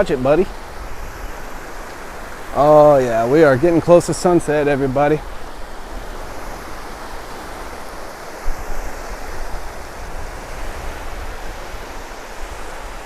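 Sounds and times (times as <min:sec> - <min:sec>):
waves washing on shore: 0:00.0 - 0:13.0
wind on microphone: 0:00.0 - 0:13.0.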